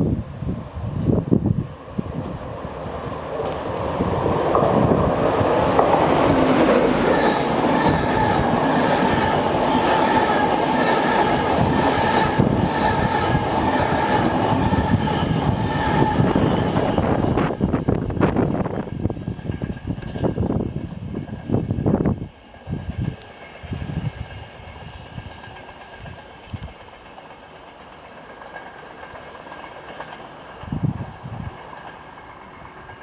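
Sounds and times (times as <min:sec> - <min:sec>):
train wheels rushing on rail: 0:00.0 - 0:33.0.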